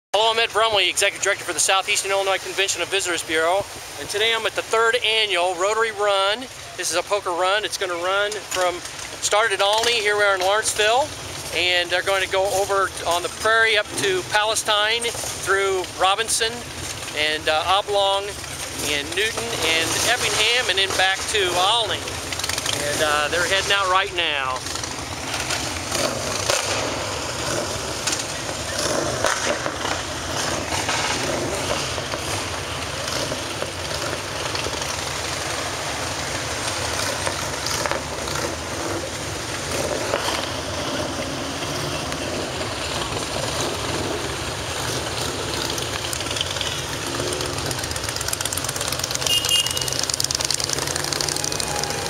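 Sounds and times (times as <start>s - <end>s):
motorcycle engines pulling away: 0.2s - 52.0s
motorcycles passing close: 0.2s - 52.0s.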